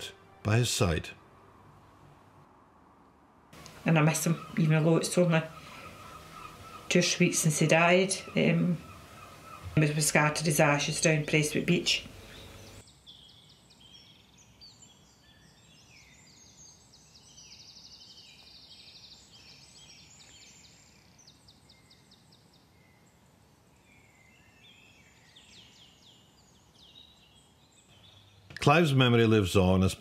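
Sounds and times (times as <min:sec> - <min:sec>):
faint background hiss: 0:00.0 - 0:30.0
birds chirping and trilling: 0:03.5 - 0:30.0.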